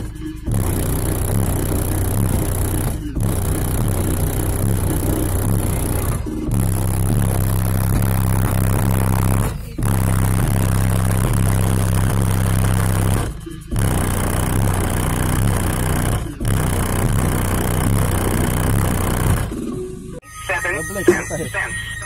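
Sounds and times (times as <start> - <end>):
bass-heavy music from car speakers: 0.0 - 22.0.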